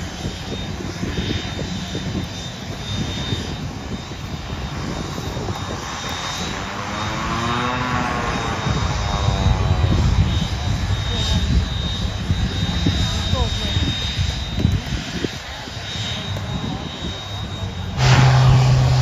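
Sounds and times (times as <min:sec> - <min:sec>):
high engine whine: 0:00.0 - 0:19.0
pitched propeller hum: 0:00.0 - 0:19.0
turboprop engine drone: 0:00.0 - 0:19.0.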